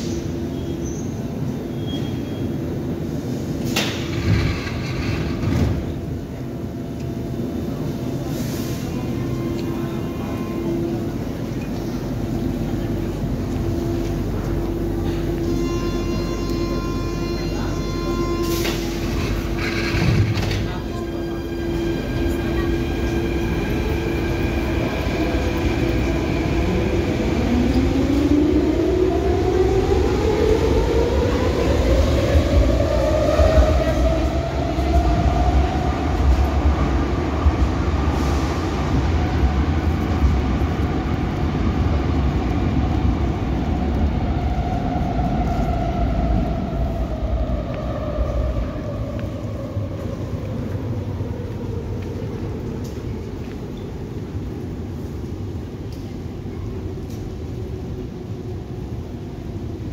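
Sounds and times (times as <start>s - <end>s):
train equipment humming: 0.0s - 59.9s.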